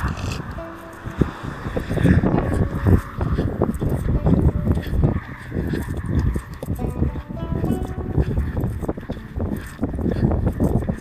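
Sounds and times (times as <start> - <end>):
footsteps on paved path: 0.0 - 11.0
wind buffeting microphone: 0.0 - 11.0.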